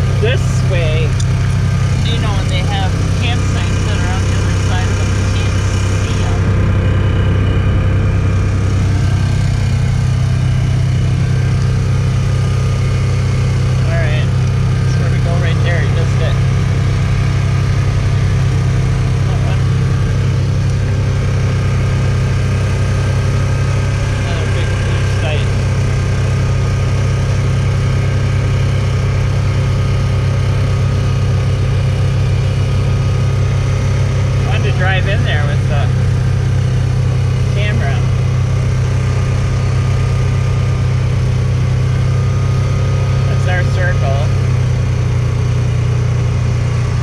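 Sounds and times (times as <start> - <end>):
vehicle engine humming: 0.0 - 47.0.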